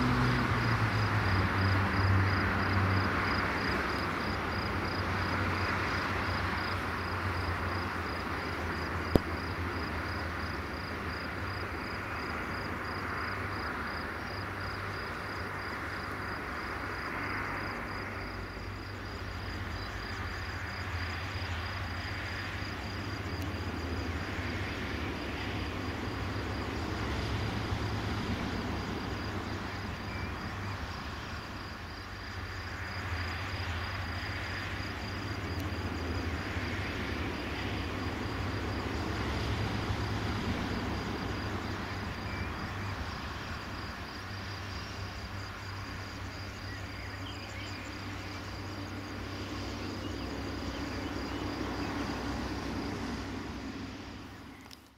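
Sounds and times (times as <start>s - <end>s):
steady low hum: 0.7s - 54.8s.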